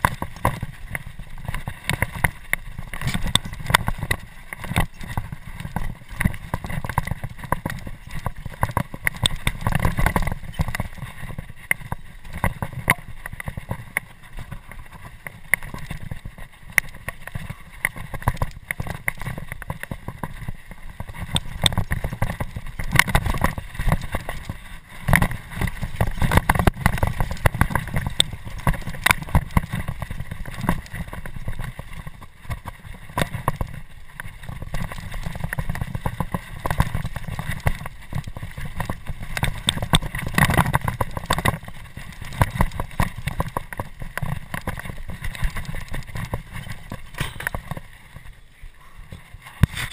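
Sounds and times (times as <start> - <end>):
bike rattling over rocks: 0.0 - 49.9
wind and ground rumble: 0.0 - 49.9.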